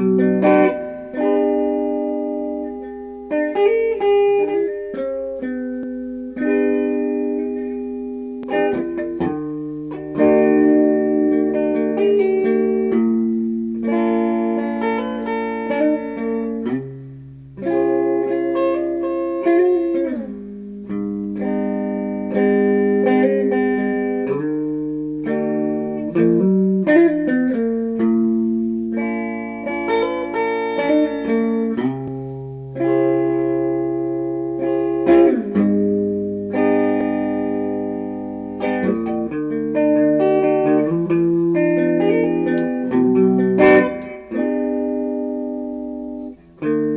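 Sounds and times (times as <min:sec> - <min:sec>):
plucked guitar music: 0:00.0 - 0:46.9.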